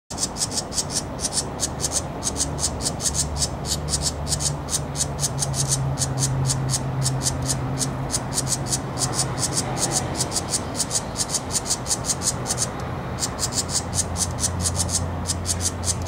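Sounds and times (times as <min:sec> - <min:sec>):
songbird raspy calls: 0:00.1 - 0:16.0.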